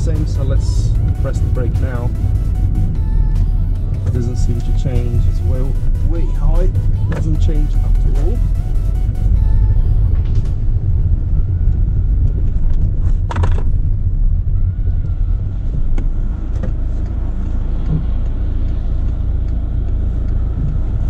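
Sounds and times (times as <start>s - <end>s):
low rumble of engine and road: 0.0s - 21.0s.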